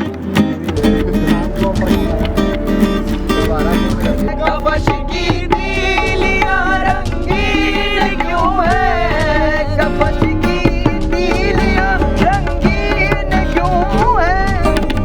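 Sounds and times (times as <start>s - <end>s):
melodic music with percussion: 0.0s - 15.0s.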